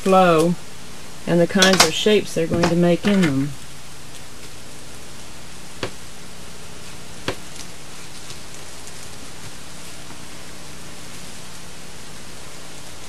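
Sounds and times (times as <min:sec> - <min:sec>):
tape hiss with low hum: 0:00.0 - 0:13.0.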